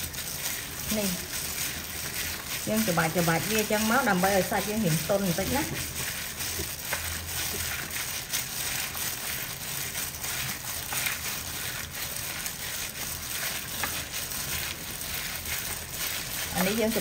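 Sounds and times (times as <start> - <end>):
plastic glove crinkling: 0.0 - 17.0
raw meat squelching: 0.0 - 17.0.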